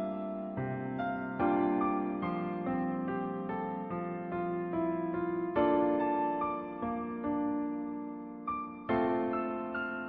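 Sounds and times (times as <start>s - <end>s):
gentle electric piano music: 0.0s - 10.0s.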